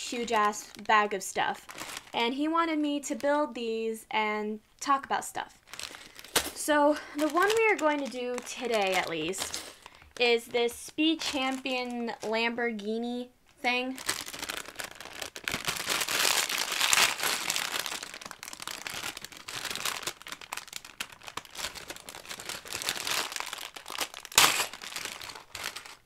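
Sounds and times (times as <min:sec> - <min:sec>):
plastic bag crinkling: 0:00.0 - 0:02.2, 0:05.6 - 0:13.0, 0:13.6 - 0:26.0.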